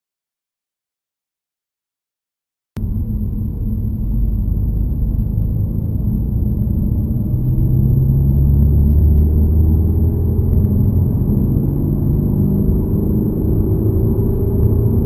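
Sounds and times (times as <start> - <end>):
car engine accelerating: 2.8 - 15.0.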